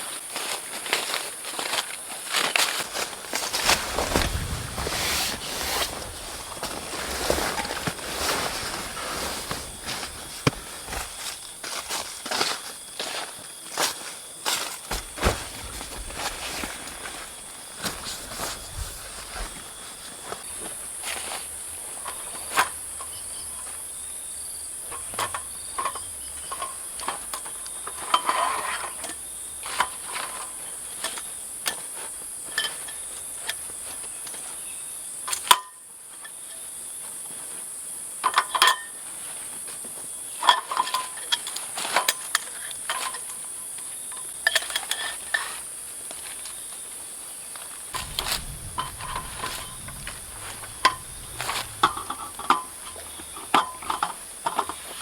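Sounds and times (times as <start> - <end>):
forest insects chorus: 0.0 - 55.0.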